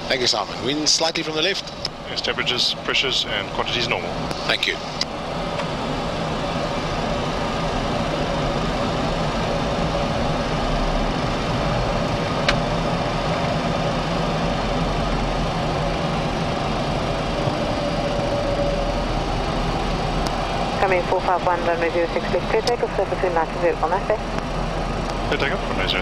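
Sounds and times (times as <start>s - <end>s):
jet engines idling hum and hiss: 0.0s - 26.0s.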